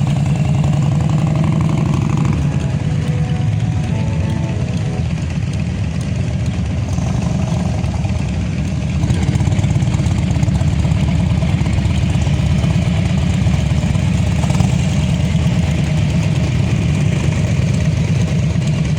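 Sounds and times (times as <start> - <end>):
motorcycle engines running: 0.0 - 18.9.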